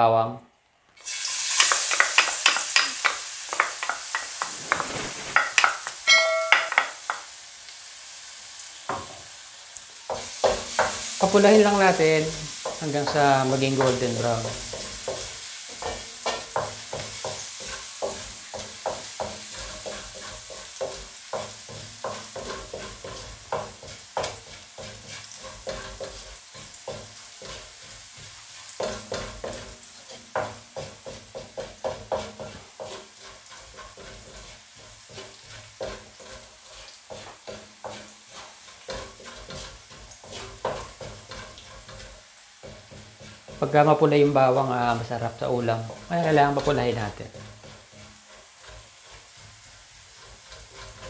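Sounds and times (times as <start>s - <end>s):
wooden spatula scraping a wok: 1.0s - 7.2s, 10.0s - 51.0s
garlic sizzling in oil: 1.0s - 51.0s.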